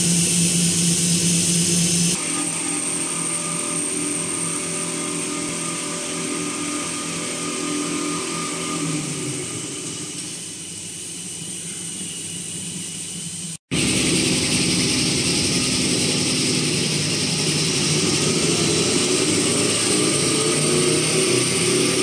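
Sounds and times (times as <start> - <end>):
high machine whine and hiss: 0.0 - 22.0
machine hum: 0.0 - 22.0.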